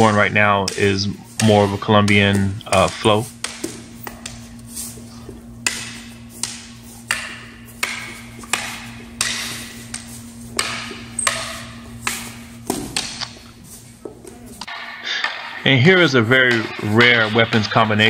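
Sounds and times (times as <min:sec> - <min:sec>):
sticks clacking together: 0:00.0 - 0:15.6
low hum: 0:00.0 - 0:17.8.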